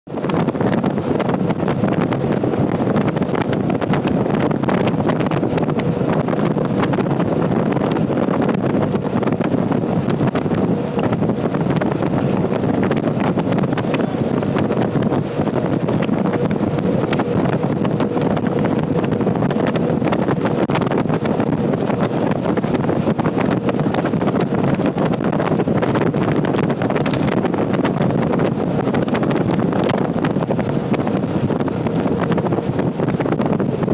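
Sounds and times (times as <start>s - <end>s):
vehicle road and wind noise: 0.1s - 33.9s
wind buffeting microphone: 0.1s - 33.9s.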